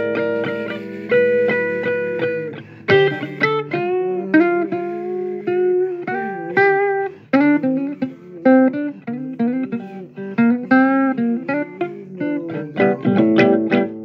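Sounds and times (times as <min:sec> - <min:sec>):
guitar picking single notes: 0:00.0 - 0:14.0.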